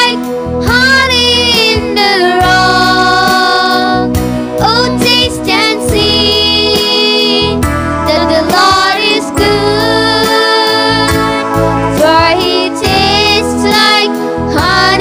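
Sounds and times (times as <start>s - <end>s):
boy and girl singing: 0.0s - 15.0s
electronic keyboard chords: 0.0s - 15.0s.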